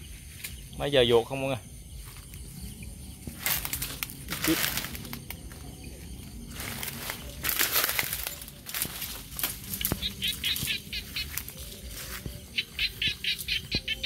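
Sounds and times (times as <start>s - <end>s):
rhythmic chirping call: 0.0s - 14.0s
footsteps rustling through dry grass: 1.8s - 14.0s.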